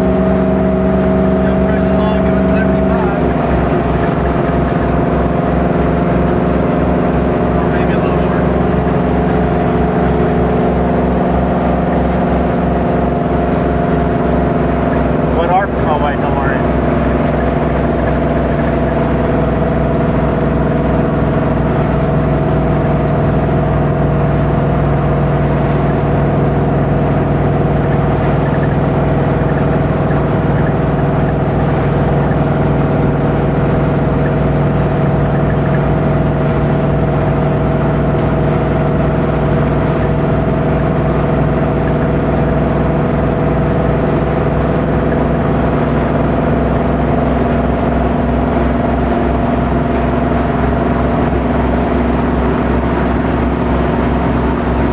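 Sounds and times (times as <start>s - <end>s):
engine and exhaust drone: 0.0s - 54.9s.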